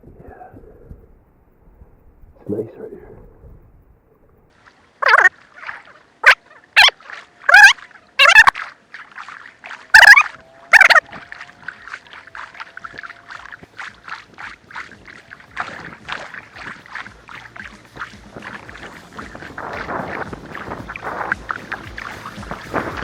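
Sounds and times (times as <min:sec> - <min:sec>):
paddle splashing in water: 0:04.5 - 0:23.0
water dripping: 0:04.5 - 0:23.0.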